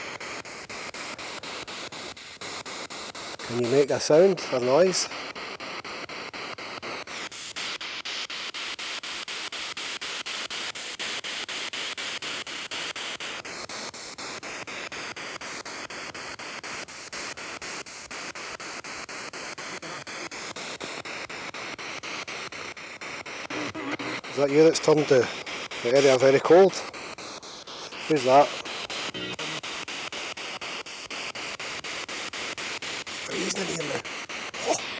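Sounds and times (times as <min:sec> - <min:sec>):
pulsing radio static: 0:00.0 - 0:18.0, 0:18.8 - 0:34.9.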